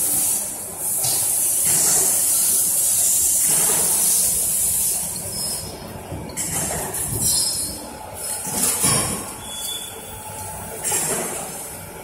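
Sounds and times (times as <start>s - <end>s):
factory machinery rumble: 0.0s - 12.0s.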